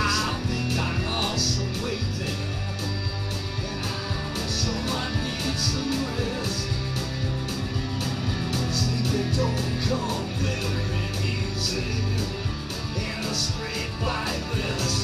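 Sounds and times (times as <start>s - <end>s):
amplified electric guitars playing rock: 0.0s - 15.0s
steady beat: 0.0s - 15.0s.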